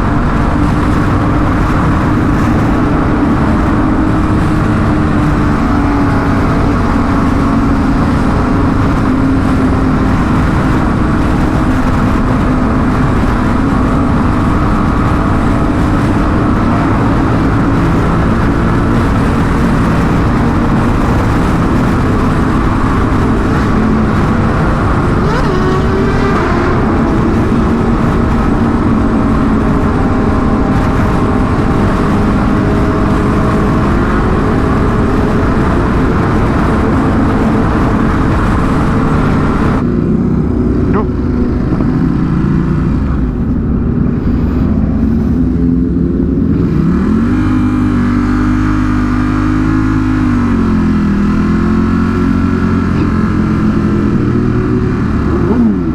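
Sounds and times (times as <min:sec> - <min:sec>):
motorcycle engine running: 0:00.0 - 0:55.9
wind rush: 0:00.0 - 0:55.9.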